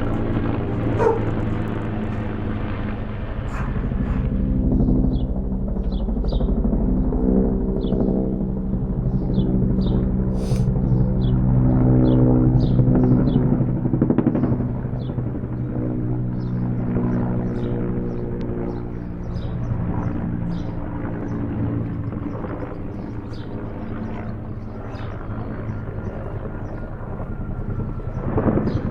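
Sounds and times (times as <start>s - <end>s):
helicopter droning: 0.0s - 28.9s.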